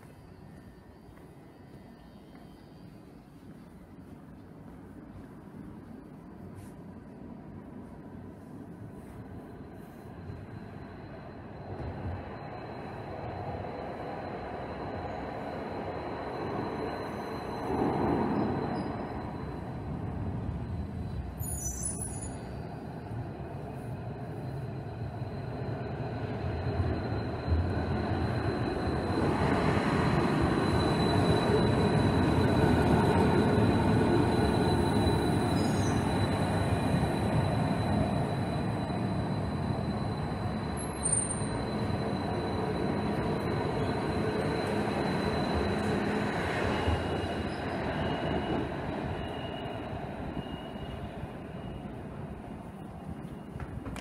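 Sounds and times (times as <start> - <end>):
thin high whine: 0.0 - 53.7
light-rail train rumble: 0.0 - 54.0.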